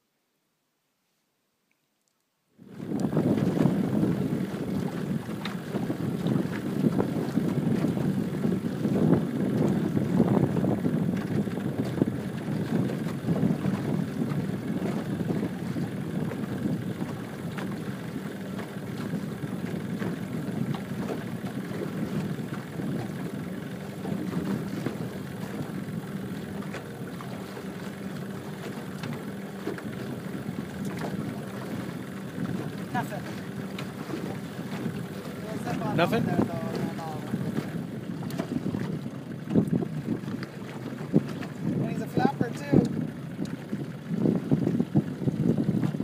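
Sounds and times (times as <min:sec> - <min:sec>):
water slapping boat hull: 0:02.6 - 0:46.0
wind buffeting microphone: 0:02.6 - 0:46.0.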